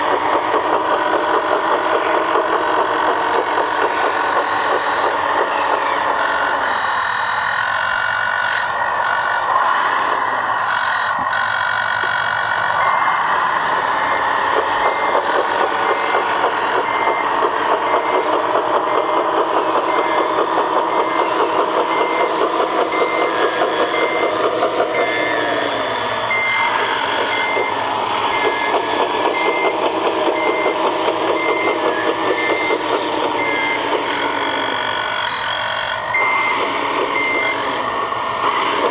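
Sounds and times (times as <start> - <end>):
electric motors whining: 0.0 - 38.9
reversing beeper: 0.0 - 38.9.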